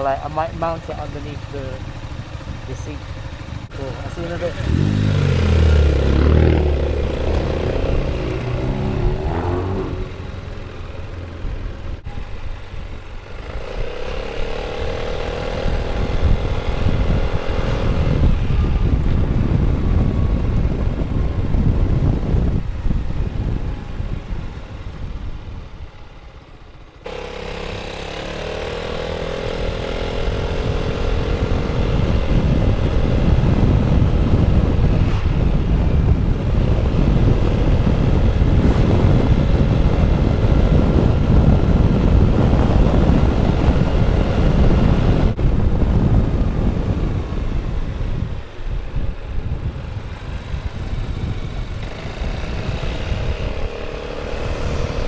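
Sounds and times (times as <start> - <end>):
scooter engine: 0.0 - 55.0
wind on microphone: 3.9 - 26.8, 27.4 - 55.0.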